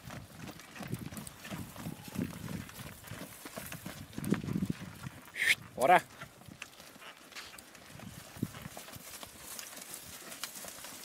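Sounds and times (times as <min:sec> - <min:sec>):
cattle hoofsteps on dirt: 0:00.0 - 0:11.0.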